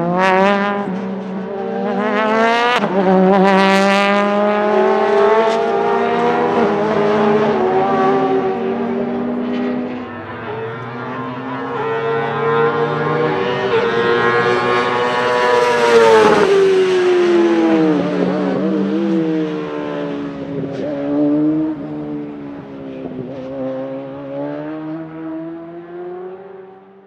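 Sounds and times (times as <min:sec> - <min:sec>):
race car engine passing at high revs: 0:00.0 - 0:27.0.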